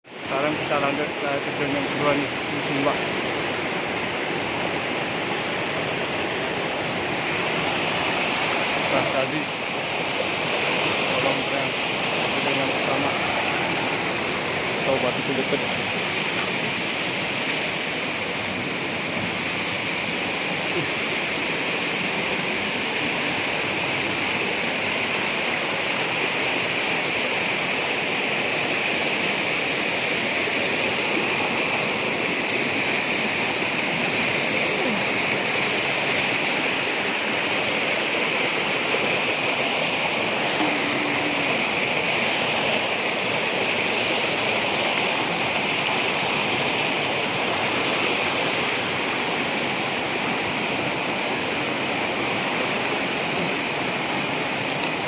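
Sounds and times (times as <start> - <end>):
waterfall rushing: 0.1 - 55.0.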